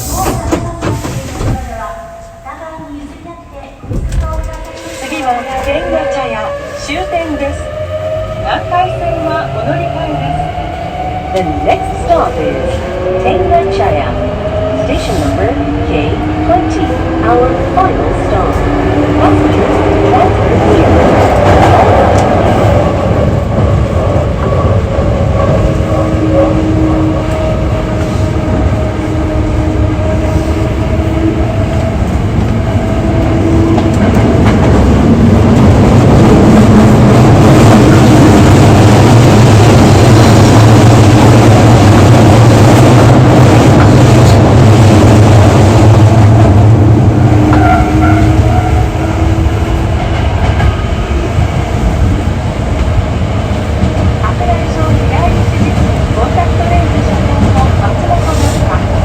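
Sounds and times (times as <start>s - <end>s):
train running tones: 0.0s - 59.0s
train wheels rumbling on rail: 0.0s - 59.0s.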